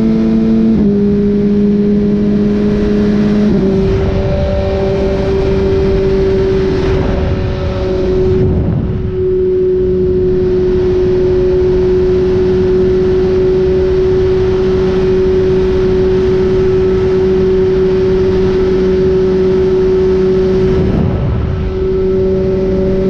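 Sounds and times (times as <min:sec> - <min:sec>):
motorcycle engine cruising: 0:00.0 - 0:23.0
wind rush on microphone: 0:00.0 - 0:23.0.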